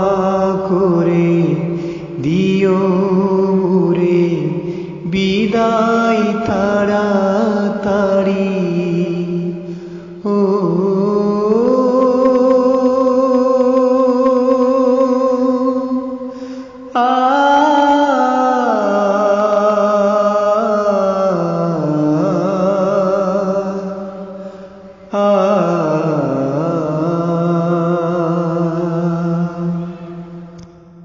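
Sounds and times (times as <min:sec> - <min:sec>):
man singing unaccompanied: 0:00.0 - 0:24.4, 0:25.0 - 0:31.0.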